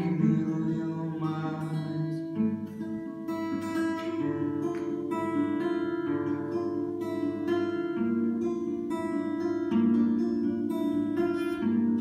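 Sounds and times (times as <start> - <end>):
acoustic guitar strummed: 0.0 - 12.0.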